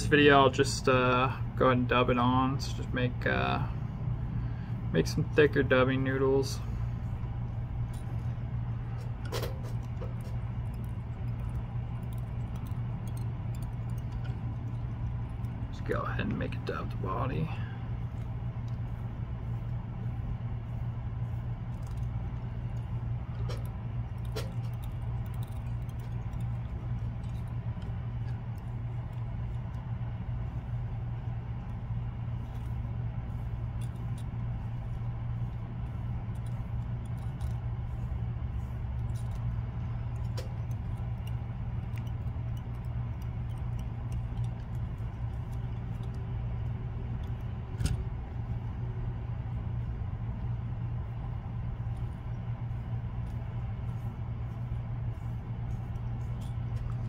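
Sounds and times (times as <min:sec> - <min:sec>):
low background hum: 0:00.0 - 0:57.0.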